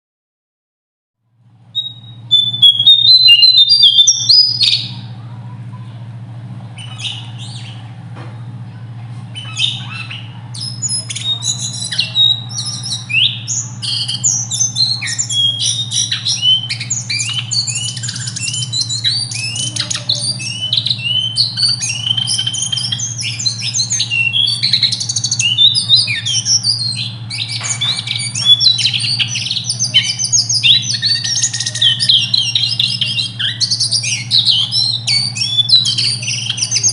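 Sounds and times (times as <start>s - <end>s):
steady low hum: 1.4s - 36.9s
songbird singing trills: 1.7s - 5.2s, 6.8s - 7.9s, 9.2s - 36.9s.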